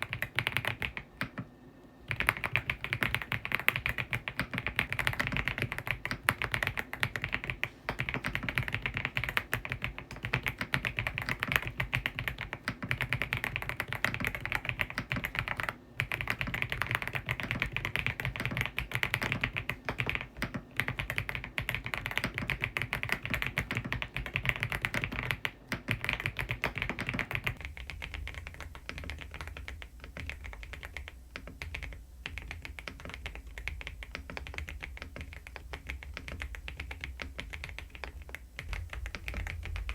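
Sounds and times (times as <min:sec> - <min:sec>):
fast keyboard typing: 0:00.0 - 0:01.5, 0:02.1 - 0:39.9
low steady hum: 0:00.0 - 0:39.9.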